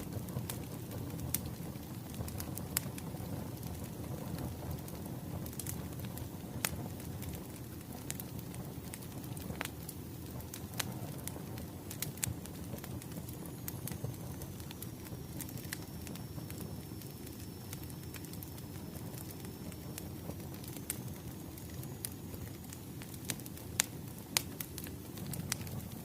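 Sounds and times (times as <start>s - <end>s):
fire pops and snaps: 0.0s - 26.0s
wood fire crackling: 0.0s - 26.0s.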